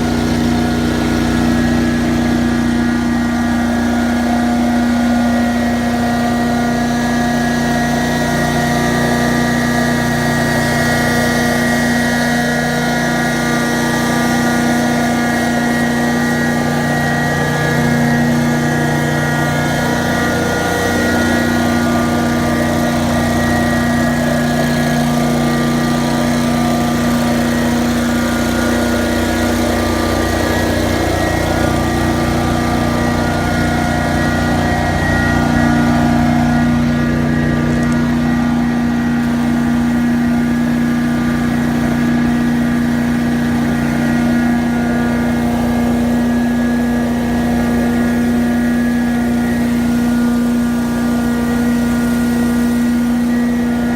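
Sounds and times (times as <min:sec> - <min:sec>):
engine and vacuum blower drone: 0:00.0 - 0:53.9.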